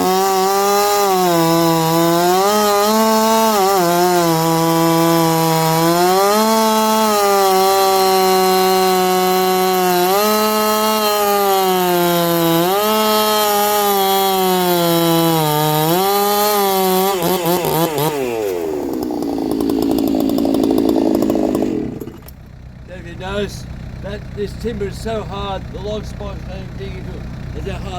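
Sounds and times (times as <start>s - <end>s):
chainsaw cutting log: 0.0s - 27.9s.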